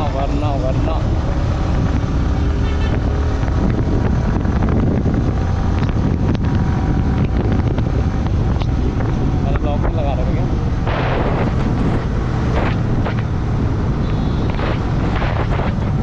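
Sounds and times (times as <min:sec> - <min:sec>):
motorcycle engine: 0:00.0 - 0:16.0
road noise: 0:00.0 - 0:16.0
wind buffeting microphone: 0:00.0 - 0:16.0.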